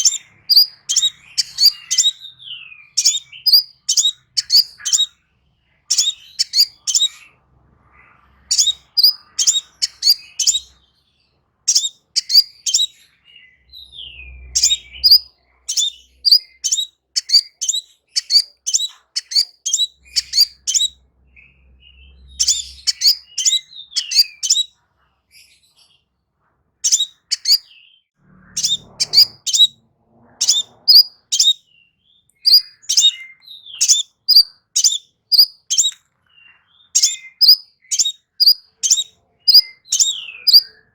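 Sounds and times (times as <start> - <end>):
bird chirping and trilling: 0.0 - 24.8, 26.8 - 40.9.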